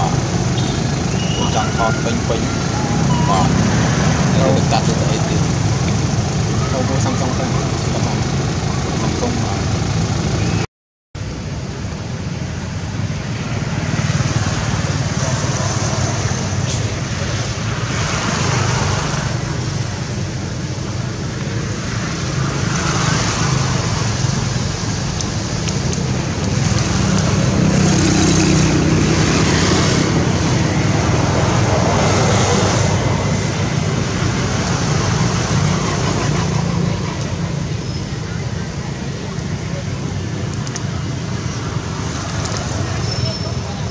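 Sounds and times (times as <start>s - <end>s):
road traffic: 0.0s - 43.9s.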